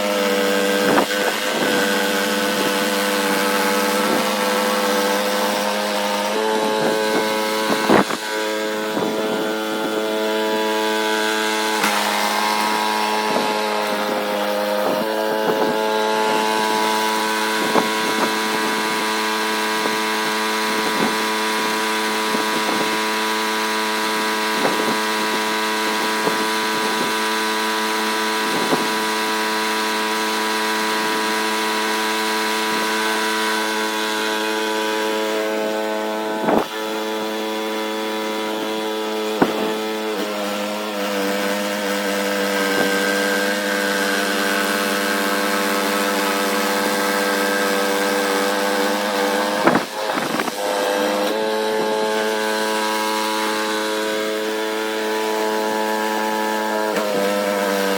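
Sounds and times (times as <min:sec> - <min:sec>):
snowblower engine running: 0:00.0 - 0:57.9.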